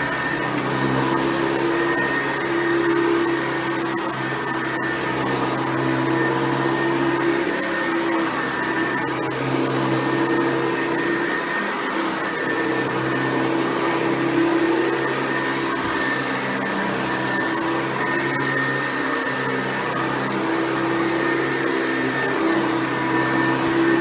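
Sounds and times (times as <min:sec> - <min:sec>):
upright vacuum cleaner running: 0:00.0 - 0:24.0.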